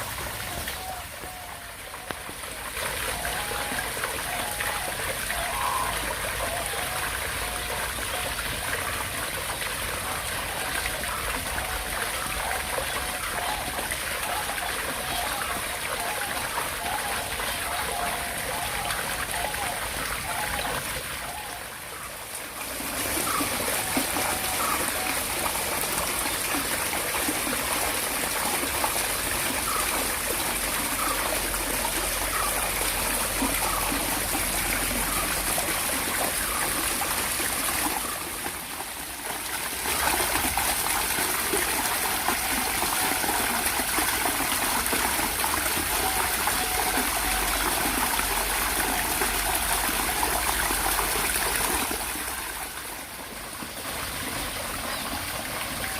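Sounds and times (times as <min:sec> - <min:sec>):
water trickling: 0:00.0 - 0:55.9.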